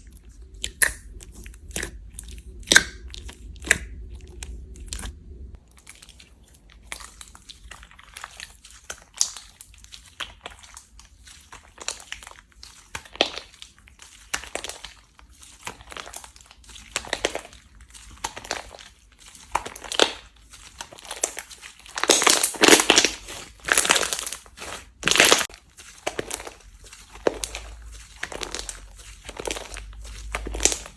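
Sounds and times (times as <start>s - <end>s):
slime squishing: 0.0s - 30.9s.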